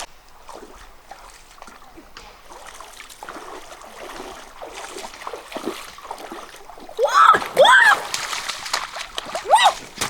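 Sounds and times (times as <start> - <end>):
river water splashing: 0.0 - 10.0.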